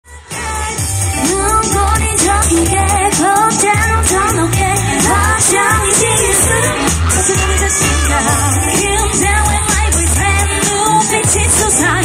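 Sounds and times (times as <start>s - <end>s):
backing track with deep bass: 0.1s - 12.0s
woman singing into a microphone: 0.1s - 12.0s.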